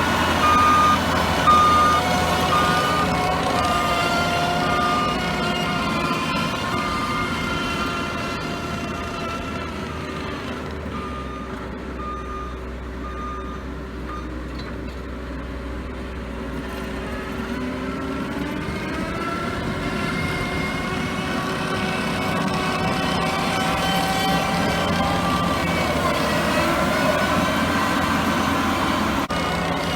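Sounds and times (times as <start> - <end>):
diesel engine under load: 0.0 - 29.9.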